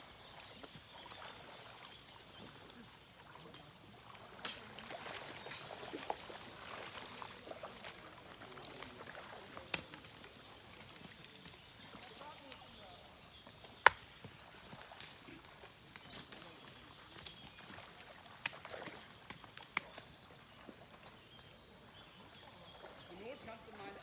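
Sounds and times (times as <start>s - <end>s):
faint trickling water: 0.0s - 24.0s.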